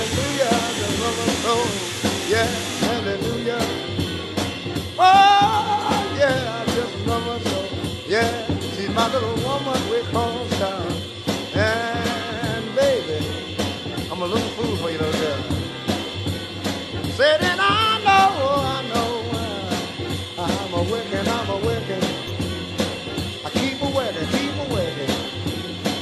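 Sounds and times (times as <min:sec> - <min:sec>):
rhythm and blues song: 0:00.0 - 0:26.0.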